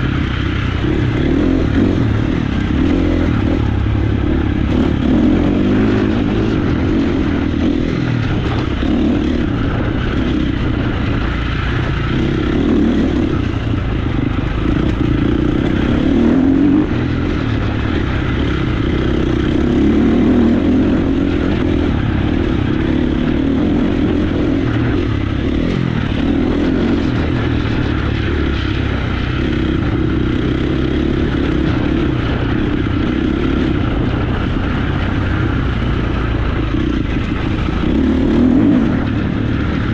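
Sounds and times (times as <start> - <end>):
motocross bike engine running: 0.0 - 39.9.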